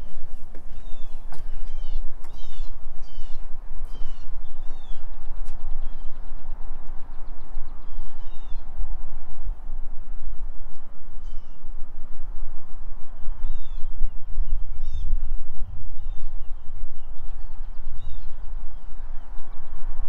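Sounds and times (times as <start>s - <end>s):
small birds chirping: 0.0s - 8.8s, 10.7s - 11.7s, 13.1s - 19.9s
wind buffeting microphone: 0.0s - 20.0s.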